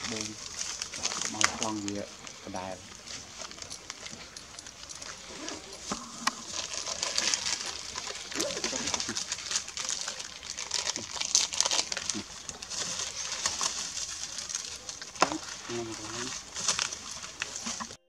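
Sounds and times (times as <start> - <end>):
dry leaves crackling and rustling: 0.0 - 18.0.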